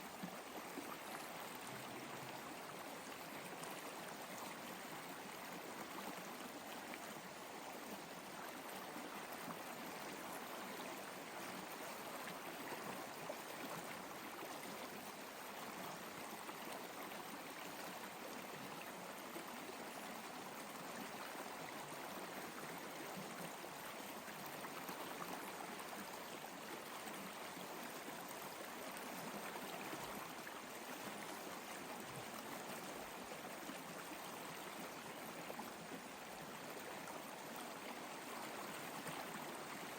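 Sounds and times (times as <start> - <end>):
water running in a stream: 0.0 - 39.9.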